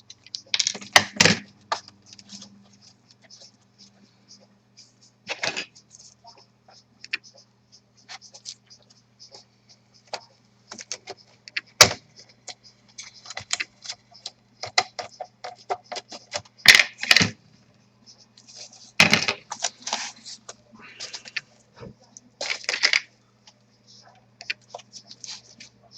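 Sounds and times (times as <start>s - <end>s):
faint low hum: 0.0s - 25.9s.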